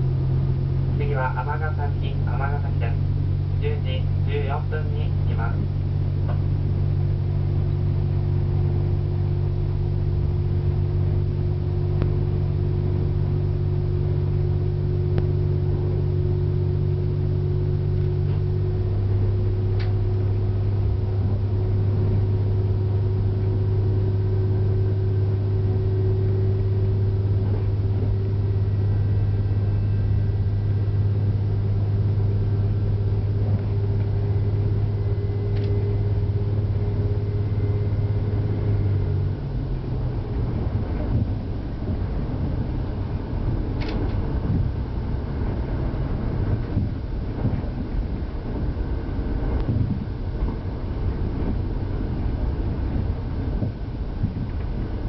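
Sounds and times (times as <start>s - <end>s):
diesel railcar engine drone: 0.0s - 55.0s.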